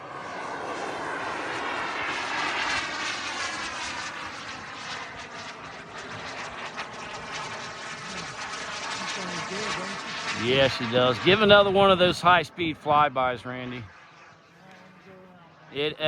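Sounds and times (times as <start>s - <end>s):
model jet turbine flyby: 0.0s - 16.0s.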